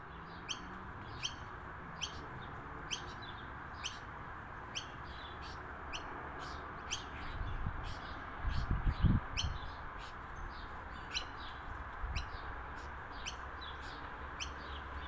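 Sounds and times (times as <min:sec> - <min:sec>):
bird chirping: 0:00.1 - 0:15.0.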